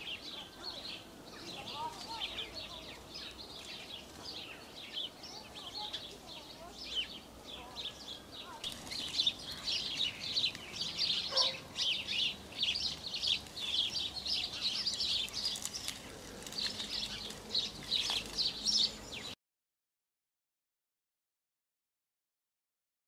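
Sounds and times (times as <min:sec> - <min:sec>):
songbirds chirping and twittering: 0:00.0 - 0:19.4.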